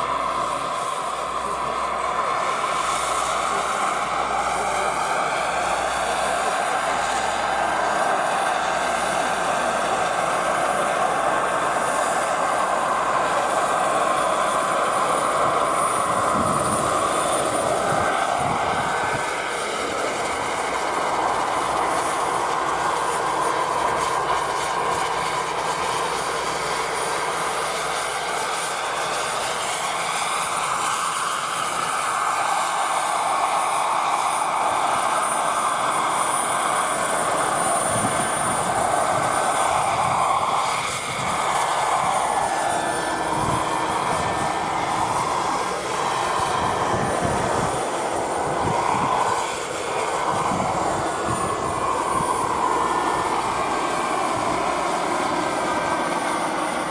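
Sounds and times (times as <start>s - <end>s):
model helicopter engine and rotors: 0.0s - 56.9s.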